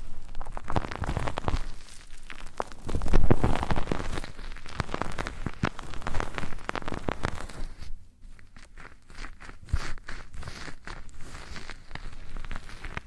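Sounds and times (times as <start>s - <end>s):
ear rubbing on microphone: 0.0s - 13.0s.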